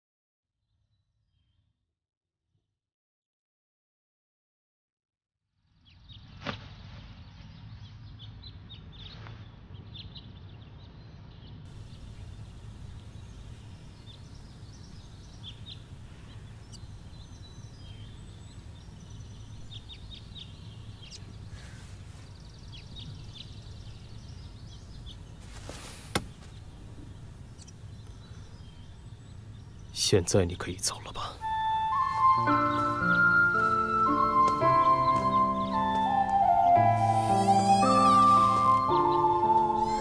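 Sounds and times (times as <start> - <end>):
small birds chirping: 5.6 - 40.0.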